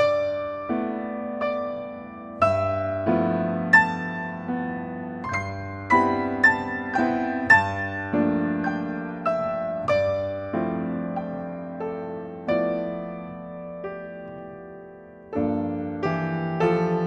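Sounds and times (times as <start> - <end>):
solo piano chords: 0.0 - 17.0.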